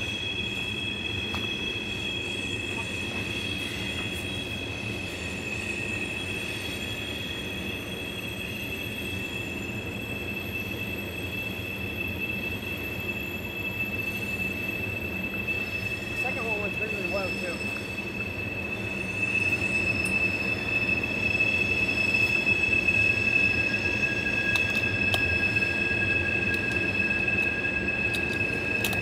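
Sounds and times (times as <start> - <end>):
high wheel squeal: 0.0 - 29.0
train rumble: 0.0 - 29.0.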